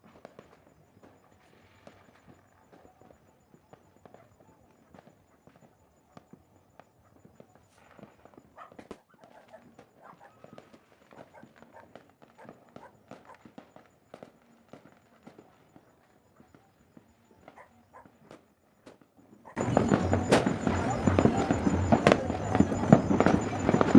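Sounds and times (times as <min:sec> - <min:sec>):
distant fireworks crackling: 0:00.0 - 0:23.9.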